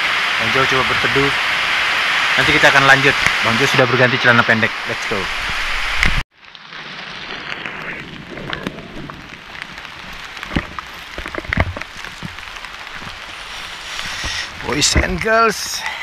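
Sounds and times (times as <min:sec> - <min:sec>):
rain on foliage and pavement: 0:00.0 - 0:16.0.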